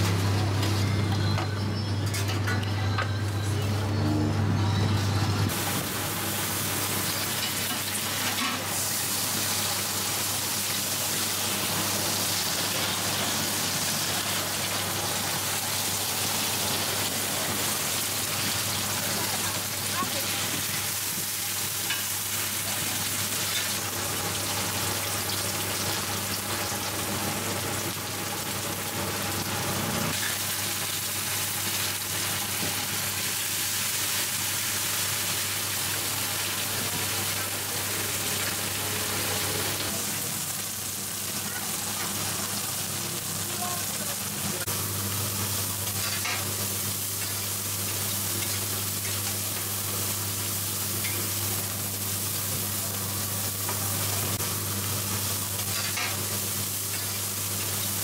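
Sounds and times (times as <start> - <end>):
pancakes sizzling in hot oil: 5.5 - 58.0.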